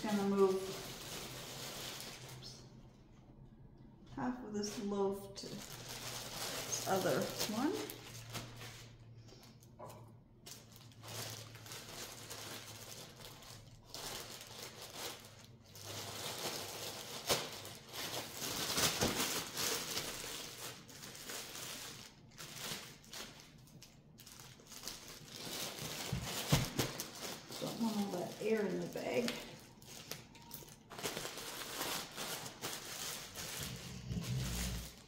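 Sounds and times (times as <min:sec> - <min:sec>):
plastic bread bag crinkling: 0:00.0 - 0:02.9, 0:04.2 - 0:09.8, 0:10.4 - 0:35.0.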